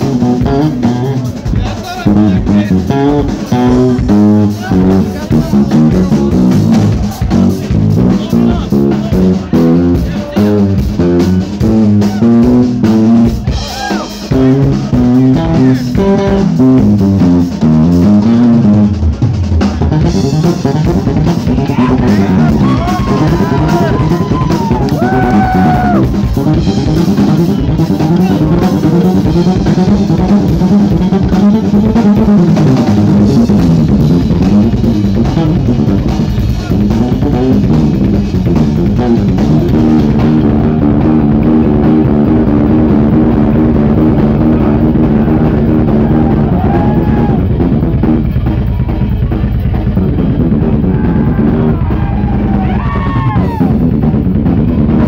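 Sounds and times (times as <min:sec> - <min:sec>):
drum kit kick and snare: 0:00.0 - 0:55.0
electric bass line: 0:00.0 - 0:55.0
live band playing: 0:00.0 - 0:55.0.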